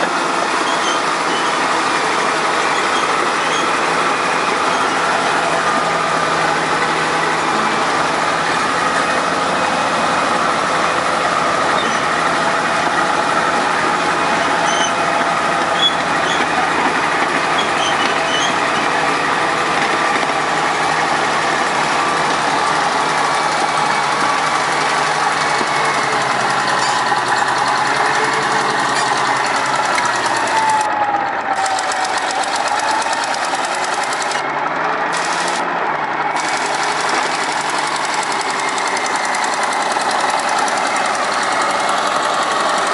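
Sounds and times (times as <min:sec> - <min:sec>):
heavy machinery engine running: 0:00.0 - 0:42.9.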